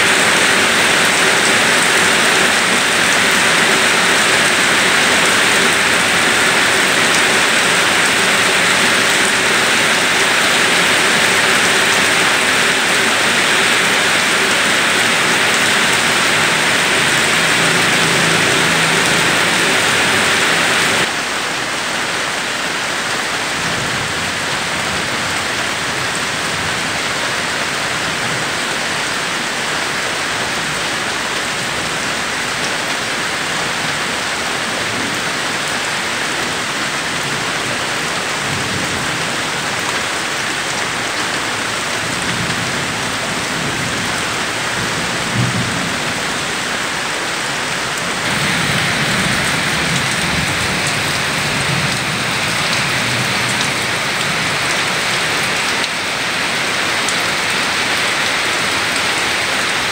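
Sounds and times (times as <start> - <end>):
rain on concrete and gravel: 0.0 - 59.9.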